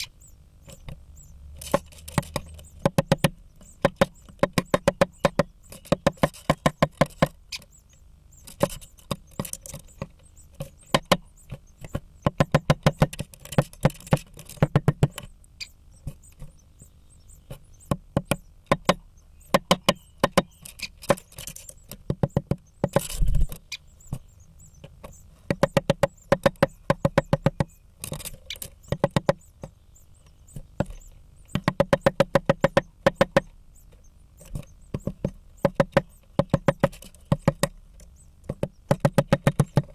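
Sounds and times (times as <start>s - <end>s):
woodpecker hammering at wood: 0.6s - 23.4s, 24.0s - 39.9s.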